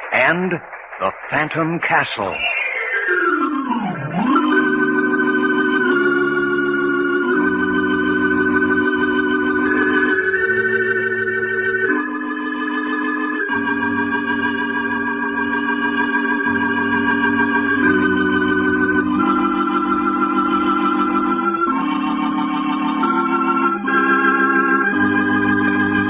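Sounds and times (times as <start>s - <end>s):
organ playing slow chords: 3.1s - 26.0s.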